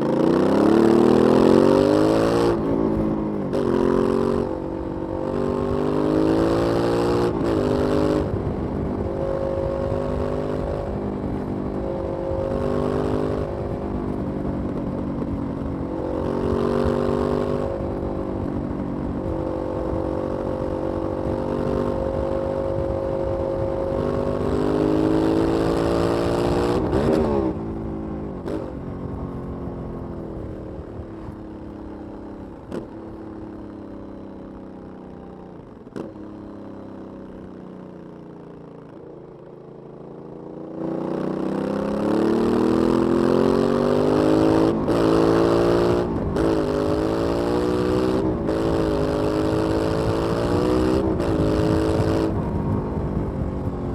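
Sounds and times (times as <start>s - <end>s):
motorcycle engine shifting gears: 0.0s - 34.2s, 38.6s - 53.9s.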